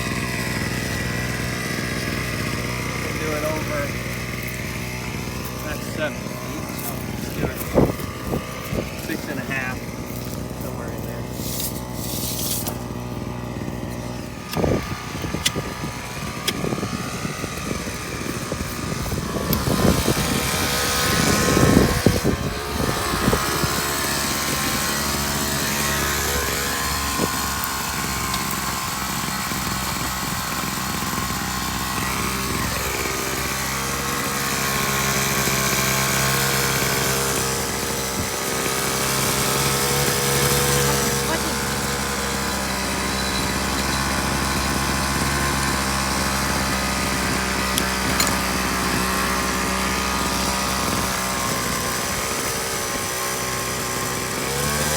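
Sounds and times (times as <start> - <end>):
jackhammer engine idling: 0.0 - 54.9
jackhammer hammering: 0.0 - 54.9.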